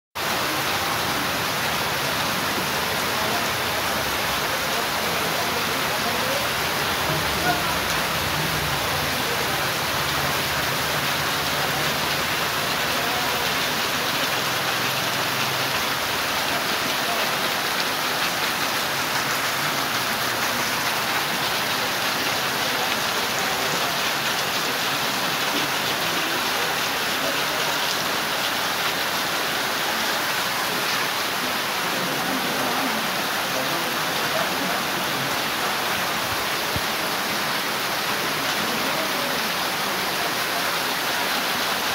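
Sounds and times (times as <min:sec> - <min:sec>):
heavy rain on ground: 0:00.2 - 0:41.9.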